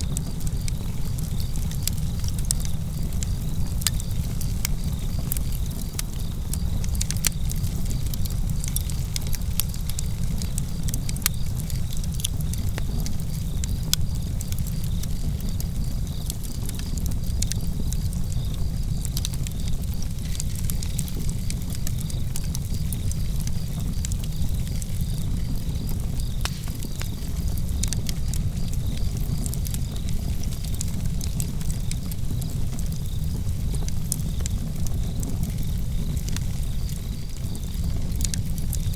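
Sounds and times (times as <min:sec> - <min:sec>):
campfire crackling and popping: 0:00.0 - 0:38.9
crickets chirping: 0:00.0 - 0:38.9.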